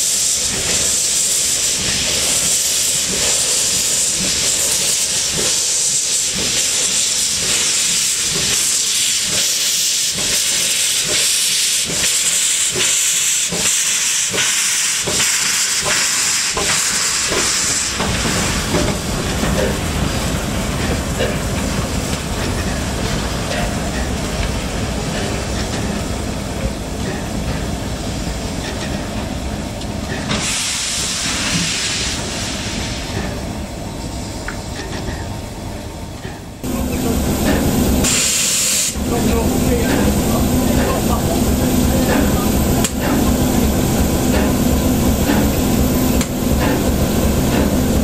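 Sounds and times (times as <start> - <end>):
steam hissing: 0.0 - 35.2, 36.6 - 48.0
steam locomotive rumbling: 0.0 - 48.0.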